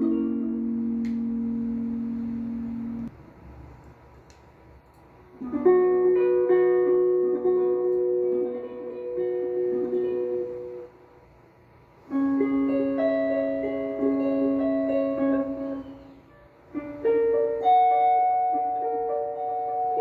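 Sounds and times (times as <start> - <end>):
guitar plucking chords: 0.0 - 3.1, 5.4 - 11.0, 12.1 - 20.0.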